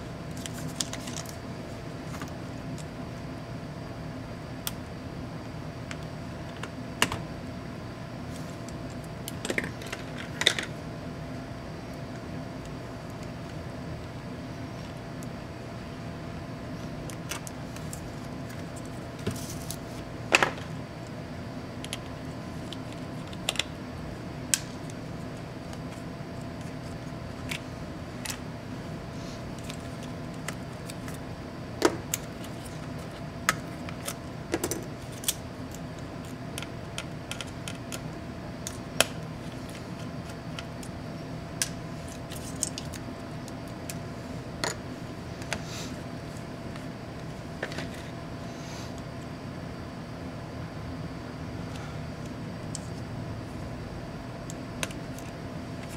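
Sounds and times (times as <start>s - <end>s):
steady background hum: 0.0s - 55.9s.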